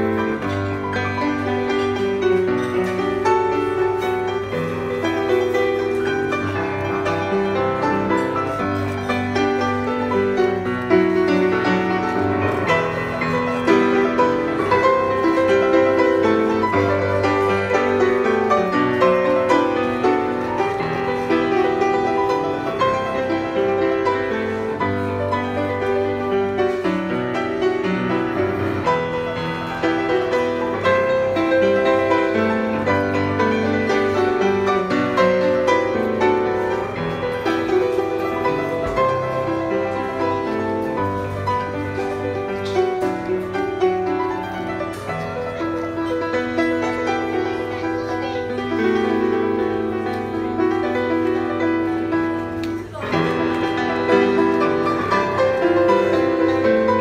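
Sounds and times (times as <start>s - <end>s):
grand piano playing chords and melody: 0.0s - 57.0s.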